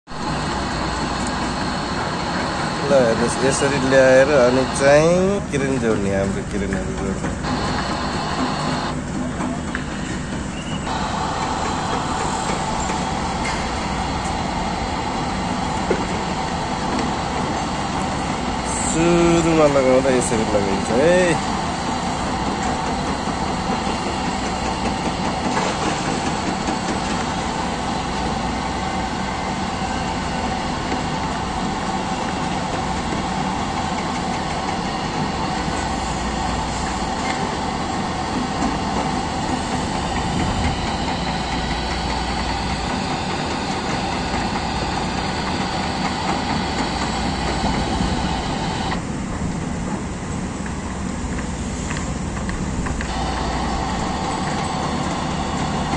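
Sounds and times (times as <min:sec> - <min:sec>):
construction machinery drone: 0:00.1 - 0:55.9.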